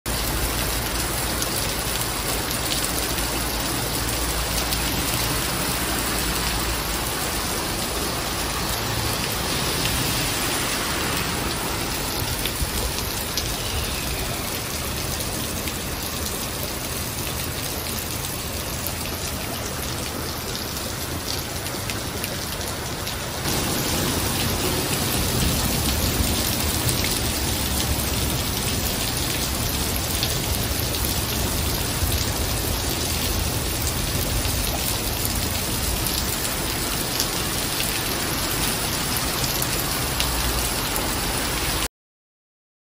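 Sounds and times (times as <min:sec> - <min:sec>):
heavy rain on pavement: 0:00.0 - 0:41.9.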